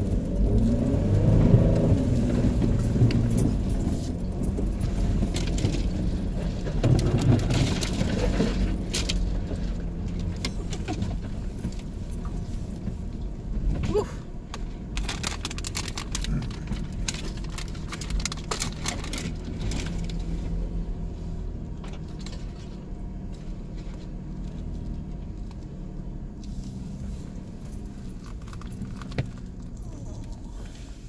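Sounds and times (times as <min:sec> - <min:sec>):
suv engine running under load: 0:00.0 - 0:31.0.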